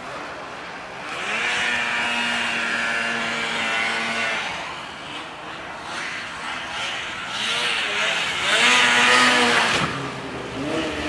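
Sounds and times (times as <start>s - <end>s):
snowmobile engine revving: 0.9s - 11.0s.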